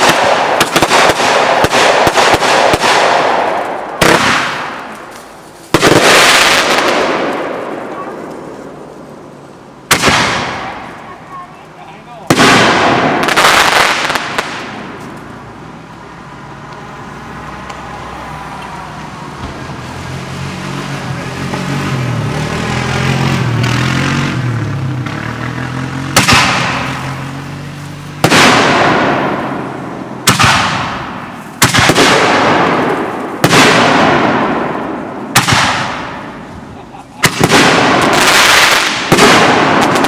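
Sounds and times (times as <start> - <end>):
fireworks bangs echoing: 0.0 - 15.2, 16.7 - 40.0
fireworks rumble: 0.0 - 40.0.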